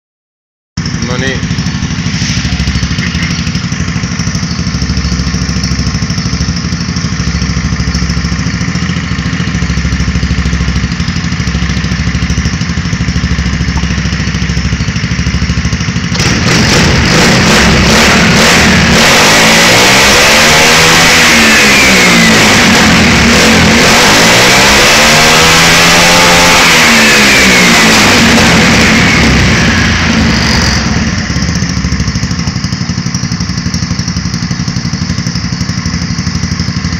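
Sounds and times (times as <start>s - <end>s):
scooter engine idling and revving: 0.8s - 36.9s.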